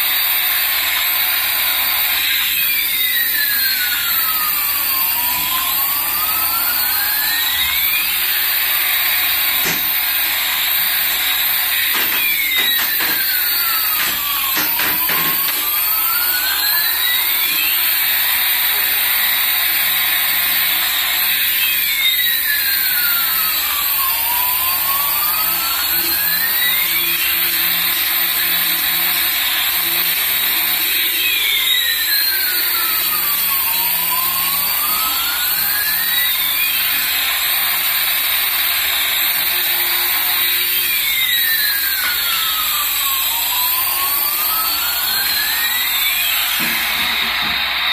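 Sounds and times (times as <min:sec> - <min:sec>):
toy jet engine sound effect: 0:00.0 - 0:47.9.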